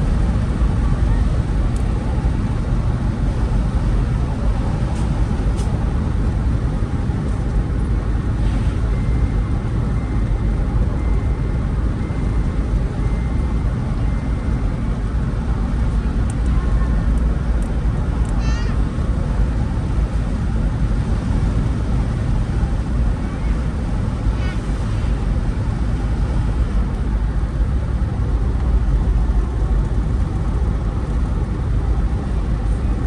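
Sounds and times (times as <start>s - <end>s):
vehicle driving rumble: 0.0s - 33.0s.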